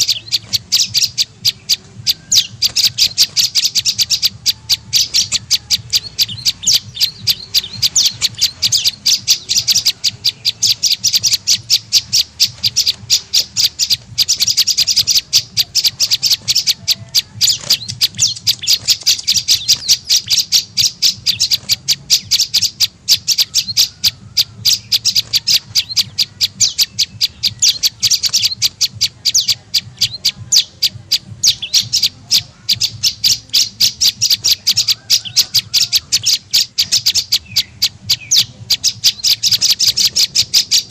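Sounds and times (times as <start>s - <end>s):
bird calling sharp chips: 0.0s - 40.9s.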